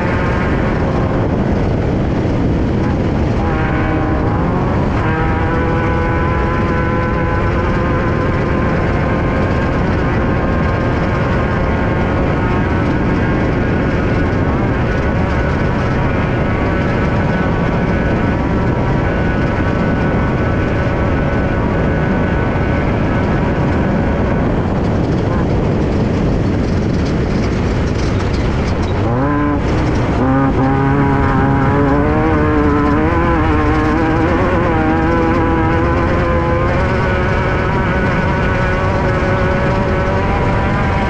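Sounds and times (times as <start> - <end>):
race car engine at high revs: 0.0 - 41.0.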